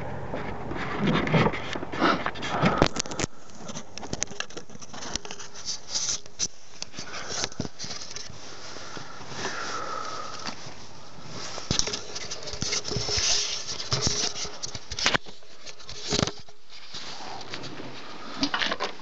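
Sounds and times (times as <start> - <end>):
sharp clicks and rubbing: 0.4 - 8.5, 10.2 - 19.0.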